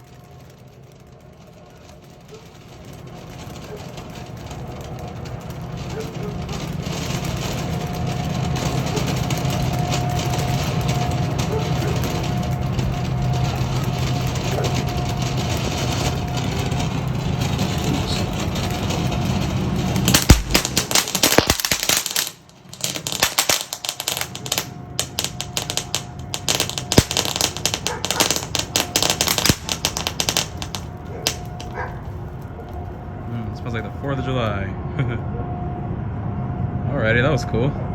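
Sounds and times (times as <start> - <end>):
rapid crackling pops: 0.0 - 34.3
firework fountain rushing: 0.0 - 34.7.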